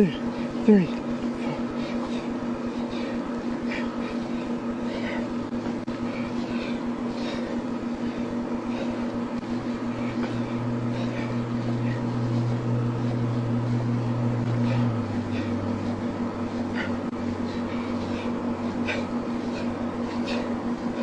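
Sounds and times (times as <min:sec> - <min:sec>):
low mechanical hum with pulse: 0:00.0 - 0:21.0.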